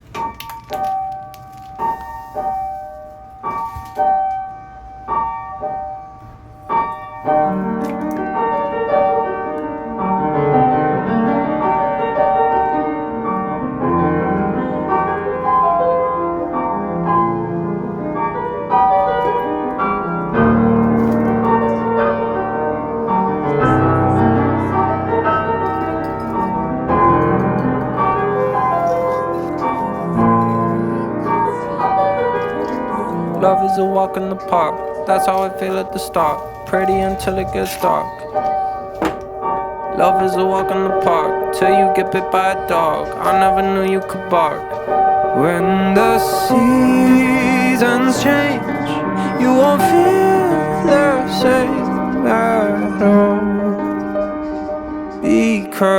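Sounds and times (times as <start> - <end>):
background piano music: 0.0 - 55.9.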